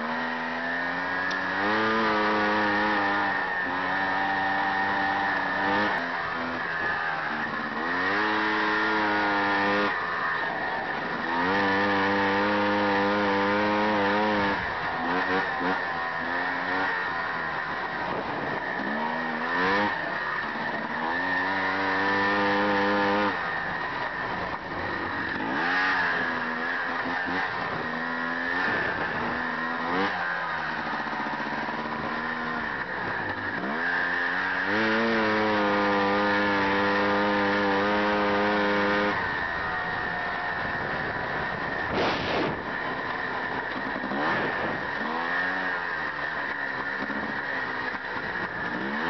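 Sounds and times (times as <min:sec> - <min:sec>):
motorcycle engine revving hard: 0:00.0 - 0:49.0.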